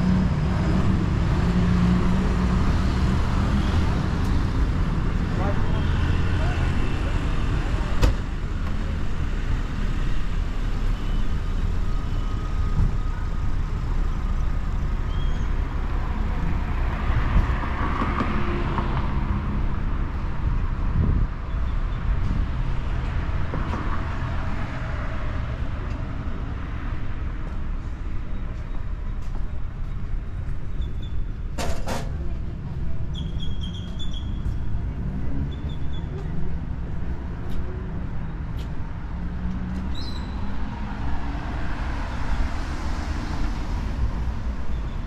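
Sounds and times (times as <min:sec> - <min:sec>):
cars passing: 0:00.0 - 0:30.7, 0:31.4 - 0:45.0.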